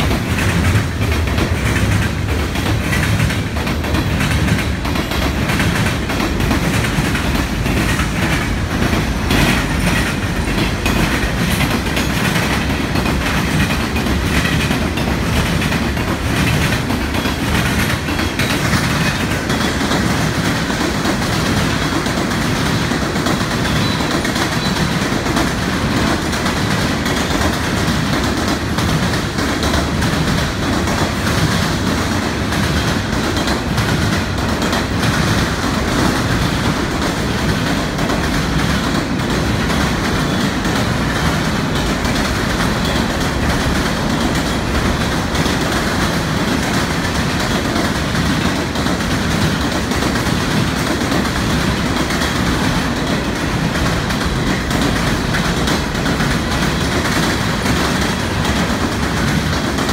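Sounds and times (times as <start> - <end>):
clickety-clack over rail joints: 0.0 - 59.9
train wheels rumbling on rails: 0.0 - 59.9.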